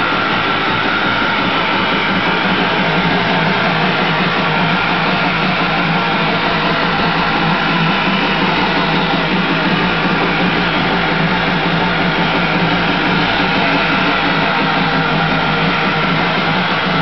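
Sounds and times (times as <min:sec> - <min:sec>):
jet ski engine running loudly: 0:00.0 - 0:17.0
loud engine pinging: 0:00.0 - 0:17.0.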